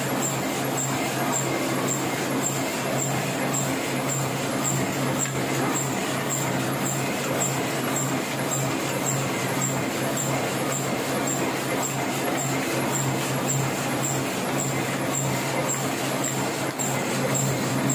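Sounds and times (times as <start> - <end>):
printing press running: 0.0 - 17.9.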